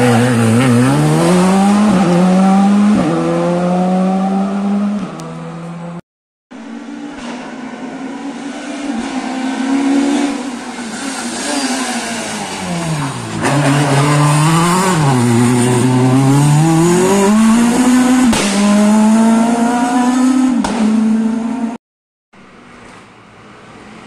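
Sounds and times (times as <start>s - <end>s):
rally car engine: 0.0s - 6.0s, 6.6s - 21.8s.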